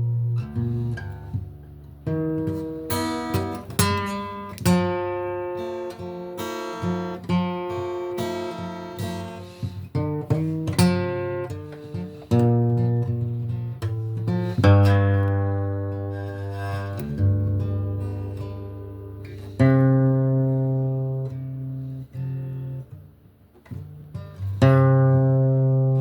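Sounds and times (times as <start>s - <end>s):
acoustic guitar: 0.0s - 26.0s.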